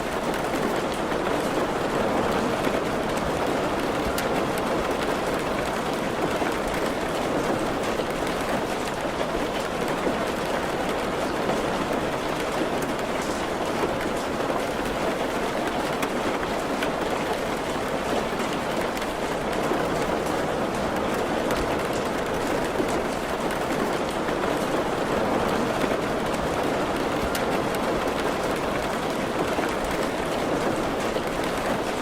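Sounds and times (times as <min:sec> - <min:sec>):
faint raindrop ticks: 0:00.1 - 0:32.0.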